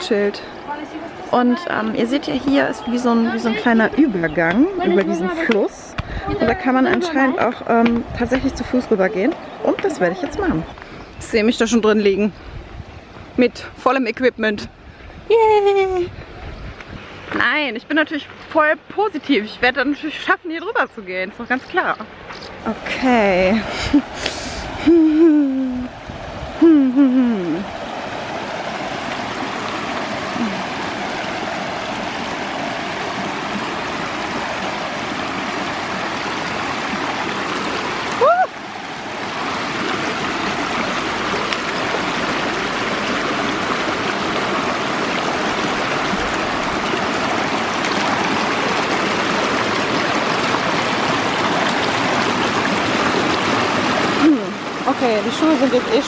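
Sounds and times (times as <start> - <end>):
river water rushing over stones: 0.0 - 13.8, 16.9 - 56.0.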